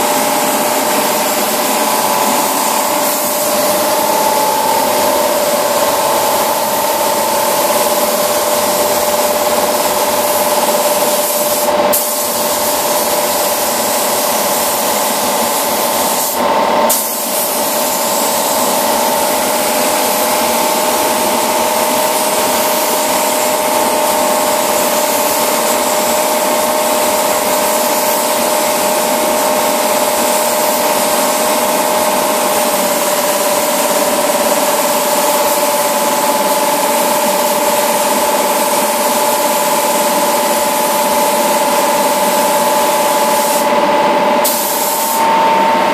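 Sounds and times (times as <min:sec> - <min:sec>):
paint spray gun hissing: 0:00.0 - 0:45.4.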